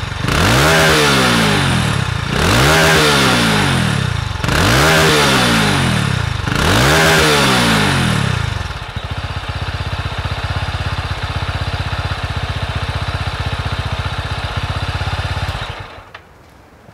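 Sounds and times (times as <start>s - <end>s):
motorcycle engine revving and idling: 0.0s - 16.1s.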